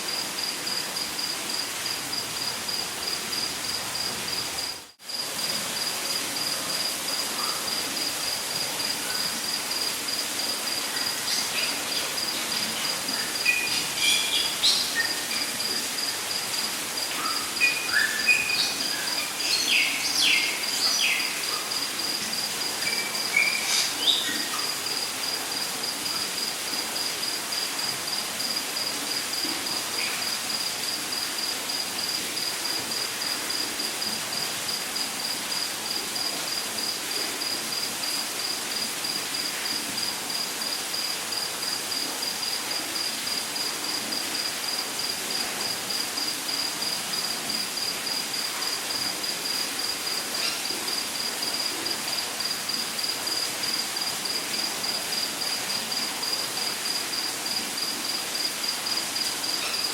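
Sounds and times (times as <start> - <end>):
constant hiss: 0.0 - 59.9
insect pulsing chirp: 0.1 - 34.8, 35.5 - 59.9.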